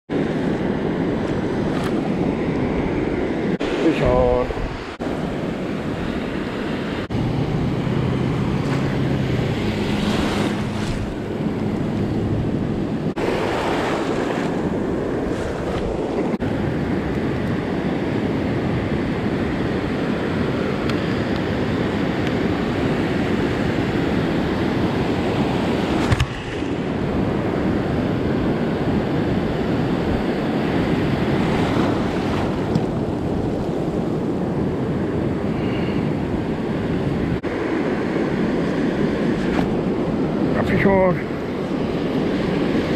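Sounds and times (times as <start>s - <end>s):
ocean surf breaking: 0.1s - 42.9s
wind buffeting microphone: 0.1s - 42.9s.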